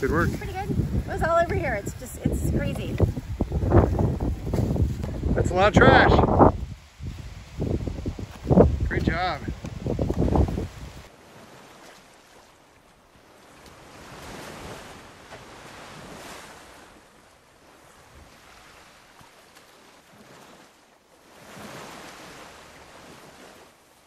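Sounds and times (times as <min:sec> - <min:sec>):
small waves washing onto sand: 0:00.0 - 0:24.0.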